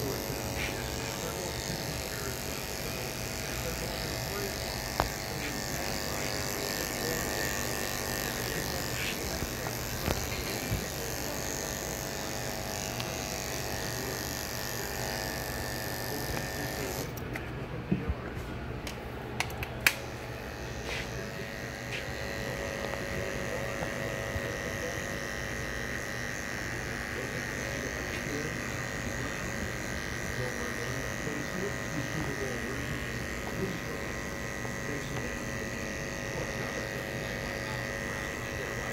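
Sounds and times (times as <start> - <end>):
electric hair clippers buzzing: 0.0 - 17.3, 18.9 - 38.9.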